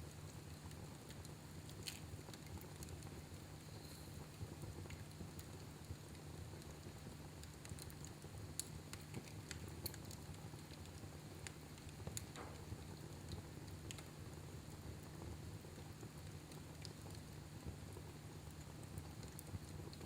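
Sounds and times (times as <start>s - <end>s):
burning wood crackling and popping: 0.0s - 20.0s
wood fire rumbling: 0.0s - 20.0s.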